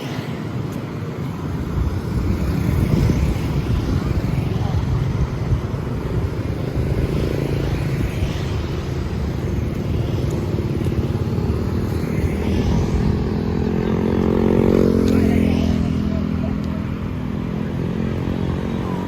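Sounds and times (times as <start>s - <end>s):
motorbike engines passing: 0.0s - 19.0s.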